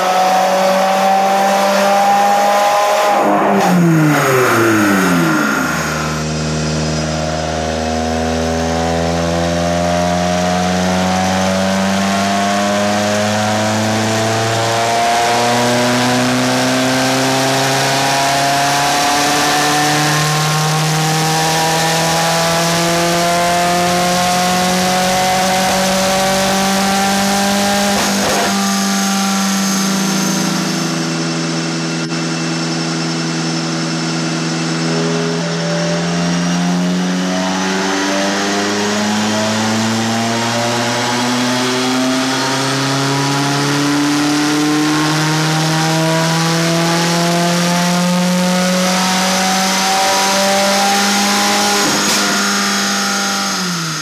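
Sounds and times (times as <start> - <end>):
turbocharged car engine under load: 0.0 - 54.0.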